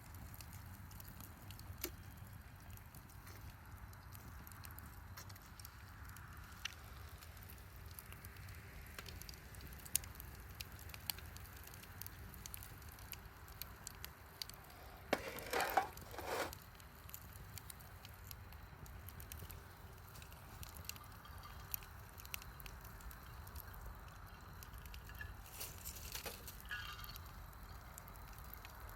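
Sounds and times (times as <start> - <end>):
wood bonfire crackling: 0.0 - 28.9.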